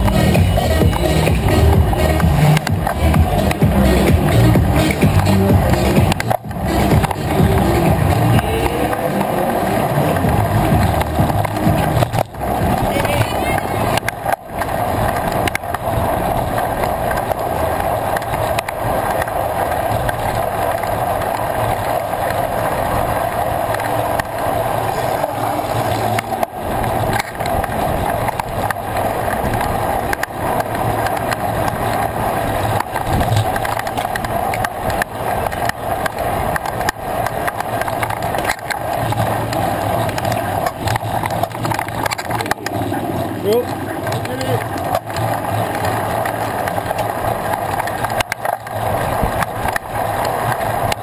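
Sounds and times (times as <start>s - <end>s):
bike tyre and wind rush: 0.0s - 51.0s.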